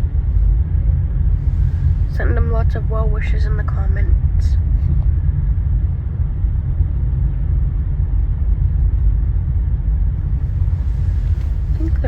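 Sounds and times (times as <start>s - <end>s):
ship engines rumbling: 0.0s - 6.6s, 8.0s - 12.0s.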